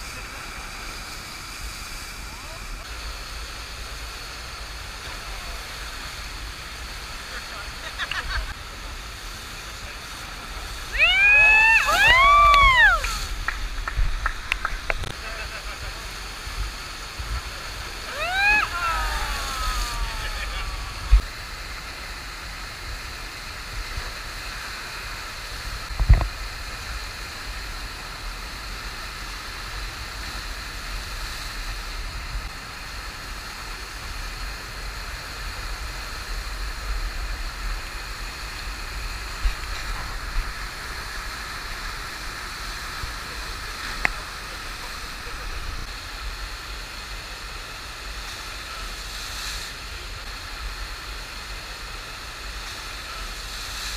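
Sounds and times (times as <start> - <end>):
water rushing up a ramp: 0.0 - 53.9.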